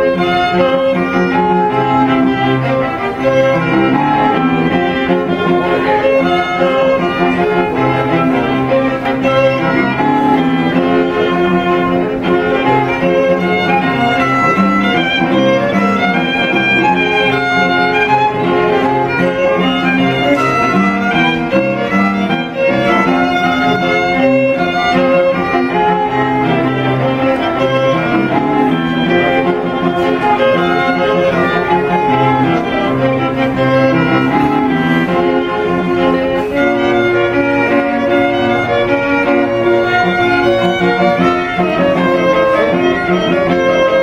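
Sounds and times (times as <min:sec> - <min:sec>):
string quartet playing: 0:00.0 - 0:44.0.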